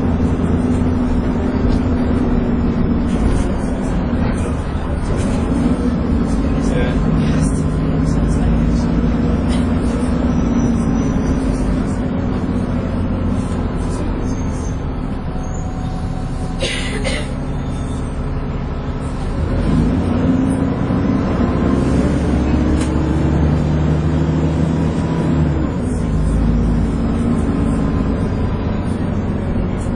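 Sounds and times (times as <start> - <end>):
bus engine whining: 0.0 - 29.9.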